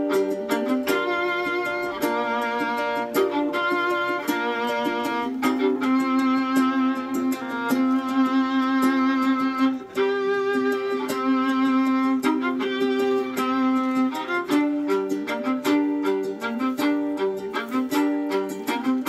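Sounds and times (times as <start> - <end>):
plucked string accompaniment: 0.0 - 19.0
violin melody: 0.0 - 19.0.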